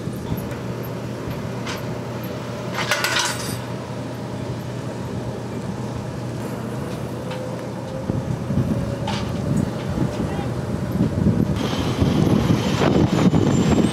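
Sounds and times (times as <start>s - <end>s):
low machinery engine hum: 0.0s - 13.9s.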